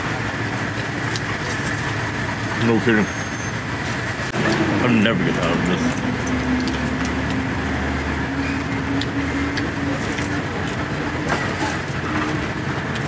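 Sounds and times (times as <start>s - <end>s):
street traffic: 0.0s - 13.0s
vehicle engine humming: 0.0s - 13.0s.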